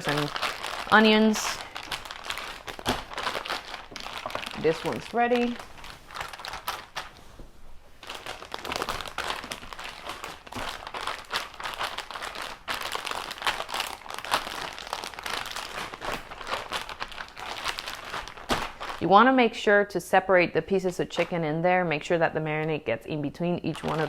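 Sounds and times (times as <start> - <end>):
plastic bag crinkling: 0.0 - 19.1, 20.9 - 21.4, 23.6 - 24.0.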